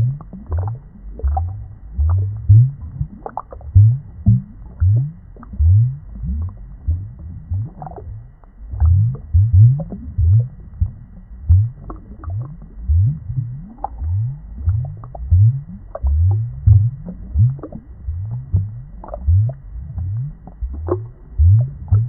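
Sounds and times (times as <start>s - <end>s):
aquarium water bubbling: 0.0s - 22.0s.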